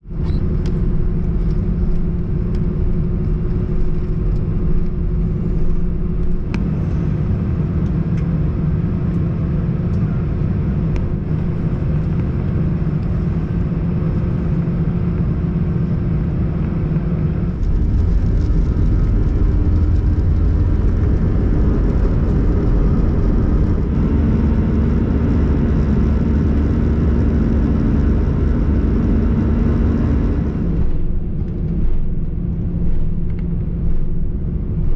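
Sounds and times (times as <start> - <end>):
jet engines rumbling in cabin: 0.0 - 34.9.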